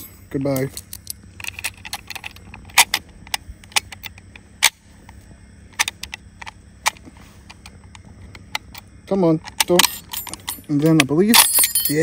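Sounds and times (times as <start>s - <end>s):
cartridges clicking into rifle magazine: 0.6s - 11.4s.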